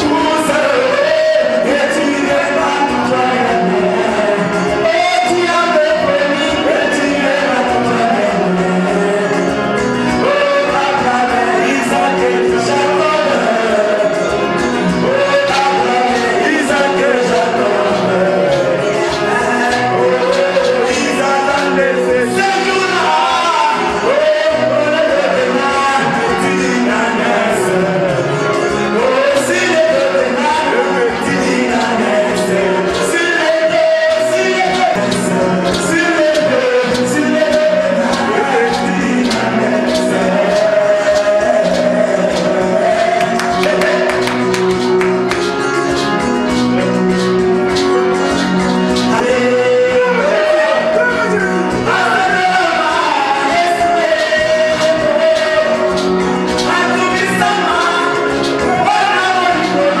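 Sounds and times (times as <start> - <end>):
guitar accompaniment: 0.0 - 60.0
music with singing voices: 0.0 - 60.0.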